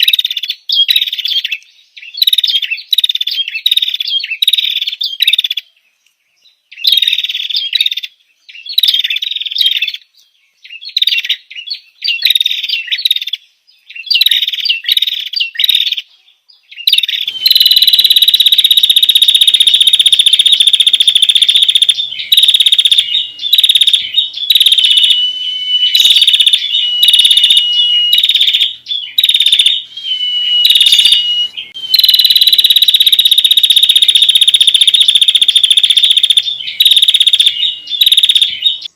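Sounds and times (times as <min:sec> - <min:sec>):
bird chirping and trilling: 0:00.0 - 0:05.7, 0:06.4 - 0:38.9.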